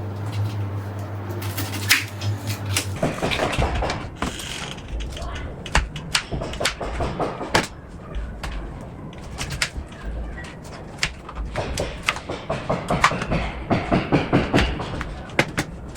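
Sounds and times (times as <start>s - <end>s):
kitchen items knocking and clicking: 1.4s - 15.9s
cupboard door sounds: 2.9s - 15.9s.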